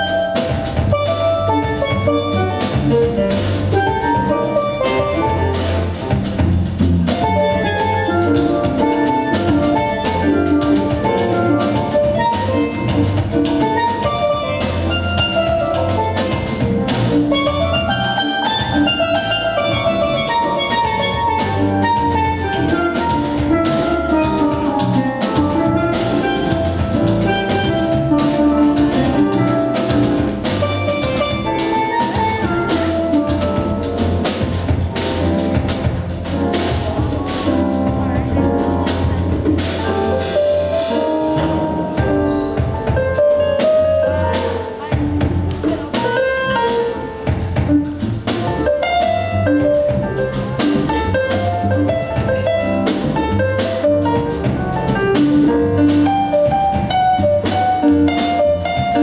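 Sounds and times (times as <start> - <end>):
jazz band playing live: 0.0 - 59.0.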